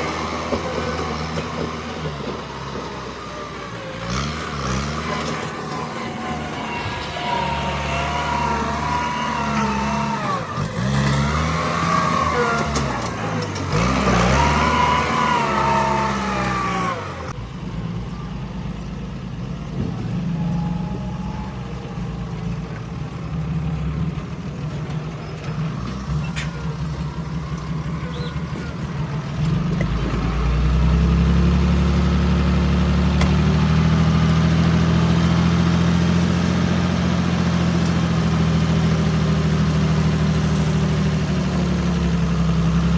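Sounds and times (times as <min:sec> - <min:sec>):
bulldozer diesel engine: 0:00.0 - 0:42.9.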